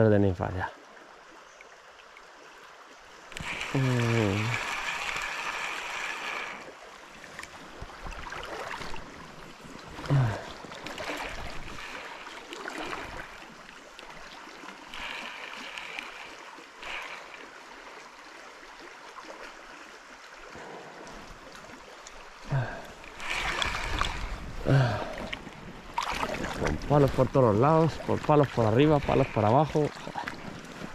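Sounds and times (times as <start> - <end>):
river water flowing: 0.0 - 30.9.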